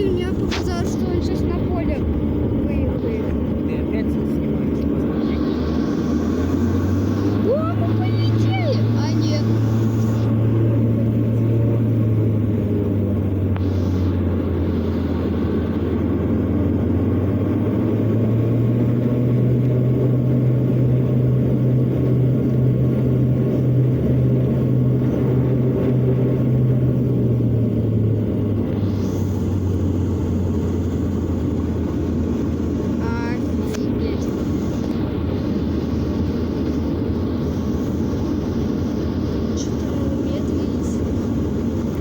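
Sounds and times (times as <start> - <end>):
propeller engines droning: 0.0 - 42.0.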